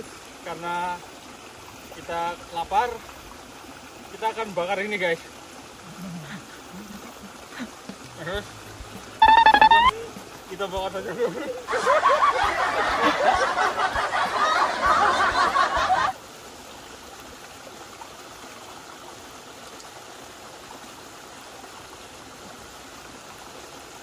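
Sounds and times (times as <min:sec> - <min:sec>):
river water flowing: 0:00.0 - 0:24.0.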